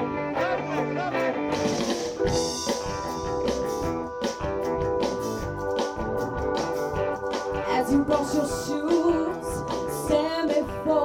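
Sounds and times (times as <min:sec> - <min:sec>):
drum kit beat: 0:00.0 - 0:11.0
guitar: 0:00.0 - 0:11.0
organ chords: 0:00.0 - 0:11.0.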